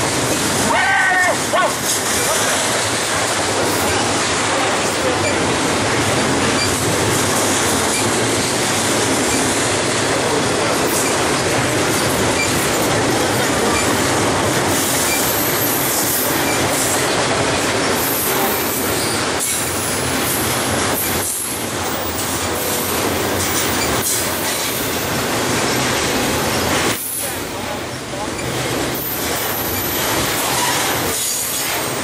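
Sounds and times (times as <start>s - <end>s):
steel train wheels on rail: 0.0s - 32.0s.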